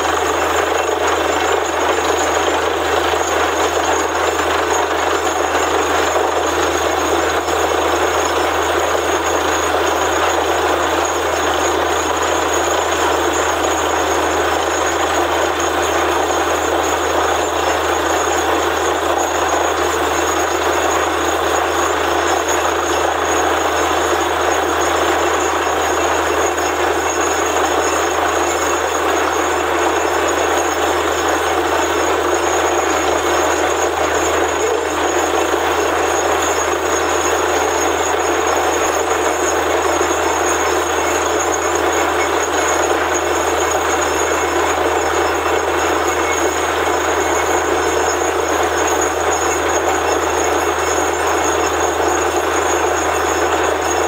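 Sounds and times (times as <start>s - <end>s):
constant high whine: 0.0s - 54.0s
drilling rig mechanical din: 0.0s - 54.0s.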